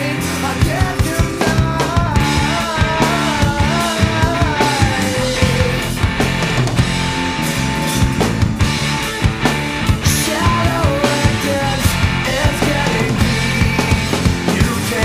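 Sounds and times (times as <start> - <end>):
bass guitar: 0.0 - 15.0
busy drum kit: 0.0 - 15.0
electric guitar: 0.0 - 15.0.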